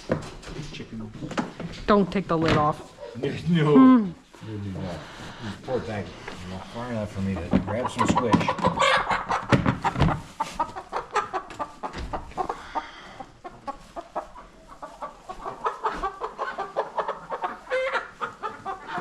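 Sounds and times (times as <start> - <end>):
chickens clucking and squawking: 2.6 - 19.0.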